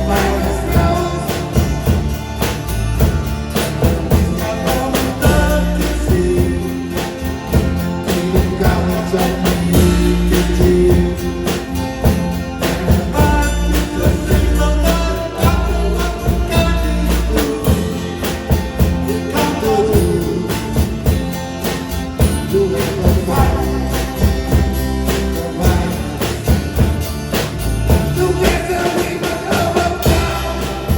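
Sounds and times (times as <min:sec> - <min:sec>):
person singing: 0:00.0 - 0:02.7, 0:03.6 - 0:21.1, 0:22.2 - 0:26.9, 0:27.9 - 0:30.9
song with drums and bass: 0:00.0 - 0:30.9.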